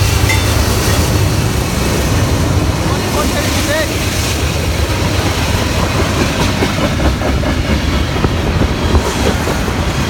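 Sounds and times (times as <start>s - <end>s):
deep train rumble: 0.0s - 10.0s.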